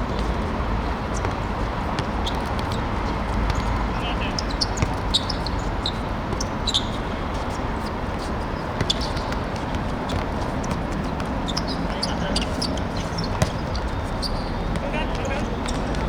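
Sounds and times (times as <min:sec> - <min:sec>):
players' footsteps: 0:00.0 - 0:16.0.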